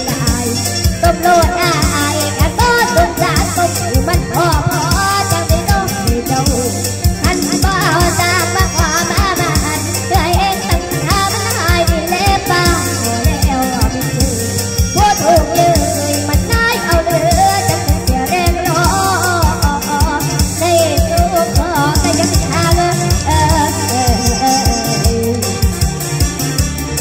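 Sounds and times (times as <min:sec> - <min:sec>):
girl singing into microphone: 0:00.0 - 0:25.8
backing music with beat: 0:00.0 - 0:27.0.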